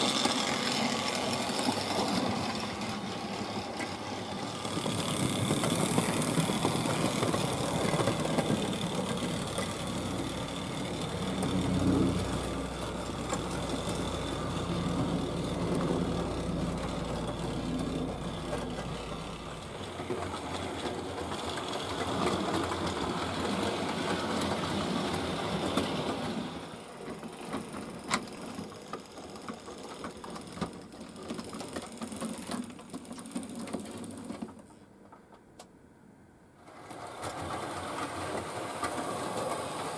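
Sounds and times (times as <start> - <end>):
model locomotive motor whirring: 0.0 - 34.8, 36.6 - 39.9
wheels clicking over rail joints: 0.0 - 35.7, 36.6 - 39.9.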